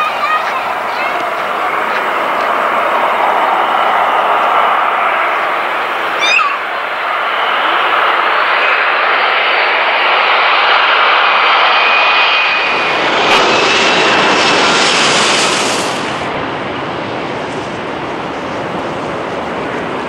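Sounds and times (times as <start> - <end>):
jet airliner passing: 0.0 - 20.0.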